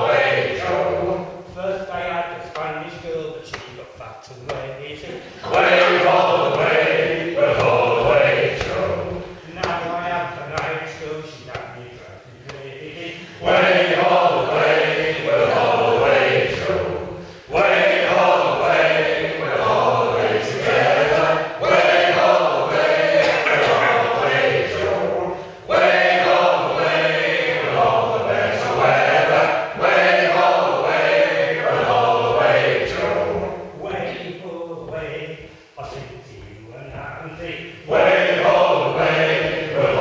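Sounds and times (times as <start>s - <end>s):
men singing a sea shanty: 0.0s - 40.0s.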